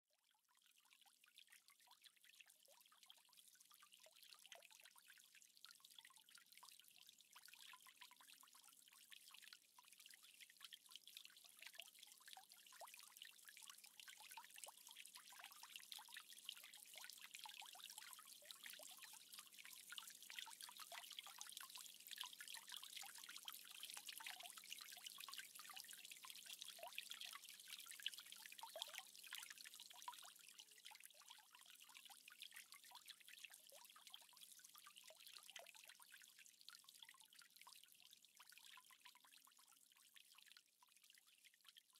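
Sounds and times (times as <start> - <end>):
fountain water trickling and splashing: 0.4 - 41.9.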